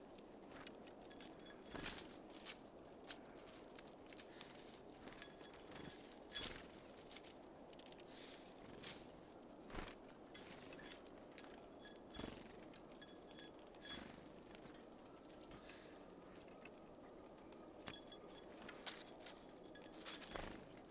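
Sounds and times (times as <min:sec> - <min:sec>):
birds pecking at seed feeder: 0:00.0 - 0:20.9.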